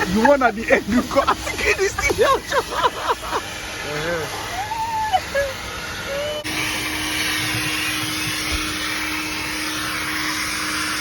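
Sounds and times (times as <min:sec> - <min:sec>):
car wash spray hiss: 0:00.0 - 0:11.0.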